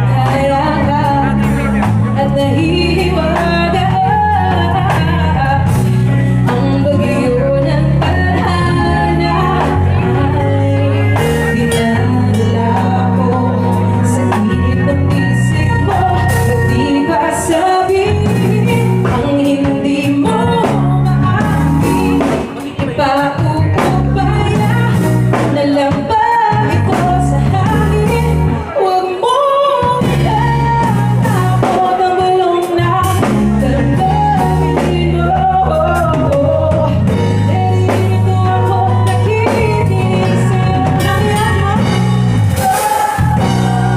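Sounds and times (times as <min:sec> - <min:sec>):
bass guitar: 0:00.0 - 0:43.9
drums: 0:00.0 - 0:43.9
guitar: 0:00.0 - 0:43.9
lead vocal singing: 0:00.0 - 0:43.9.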